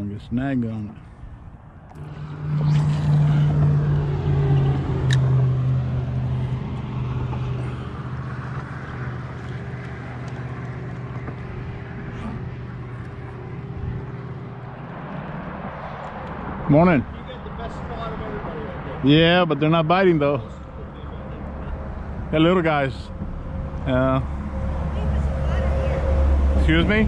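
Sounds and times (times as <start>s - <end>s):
vehicle engine passing: 1.6s - 27.0s.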